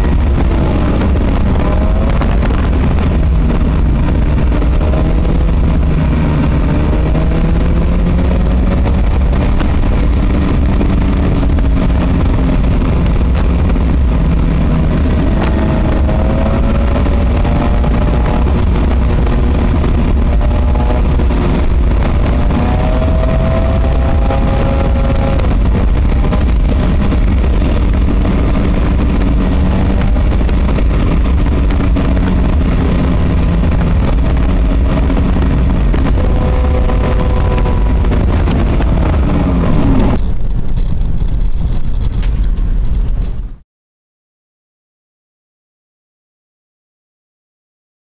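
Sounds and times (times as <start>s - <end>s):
road noise: 0.0s - 43.6s
vehicle engine running: 0.0s - 43.6s.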